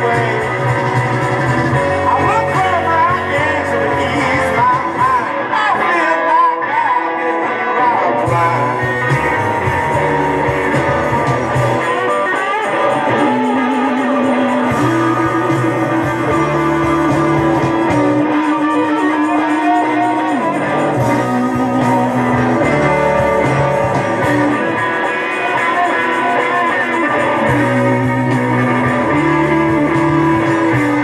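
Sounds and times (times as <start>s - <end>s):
steady bass line: 0.0s - 5.5s, 8.2s - 31.0s
electric guitar rock music: 0.0s - 31.0s.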